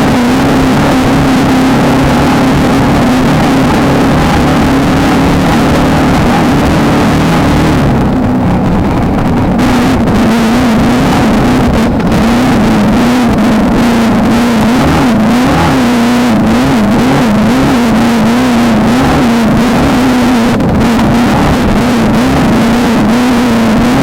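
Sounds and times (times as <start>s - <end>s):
race car engine at high revs: 0.0s - 24.0s
vehicle rattling over rough ground: 0.0s - 24.0s.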